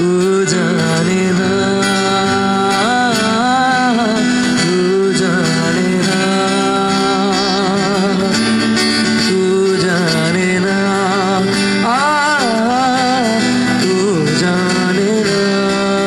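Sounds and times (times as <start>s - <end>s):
acoustic guitar: 0.0s - 16.0s
man singing slow melody: 0.0s - 16.0s.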